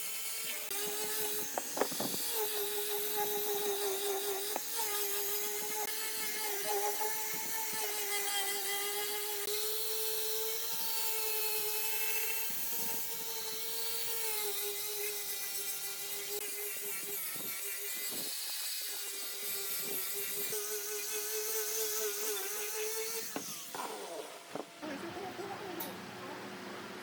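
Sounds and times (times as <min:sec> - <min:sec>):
power tool motor whining on wood: 0:00.0 - 0:25.9.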